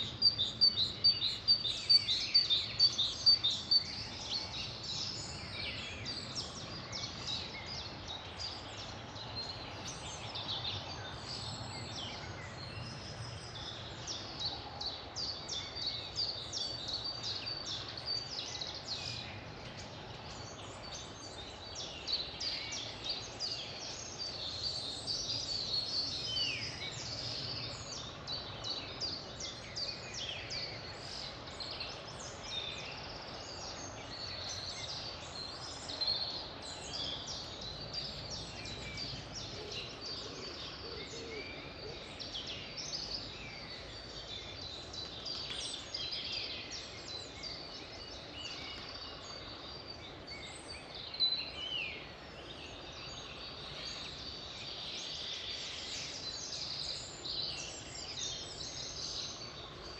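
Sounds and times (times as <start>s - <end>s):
songbirds singing and chirping: 0.0s - 59.9s
steady low background noise: 0.0s - 59.9s.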